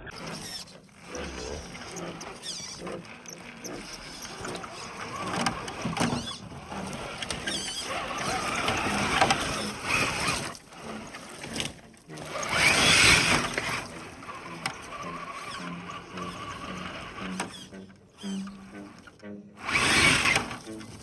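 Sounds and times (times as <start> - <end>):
electric motor whining: 0.0 - 21.0
rough background noise: 0.0 - 21.0.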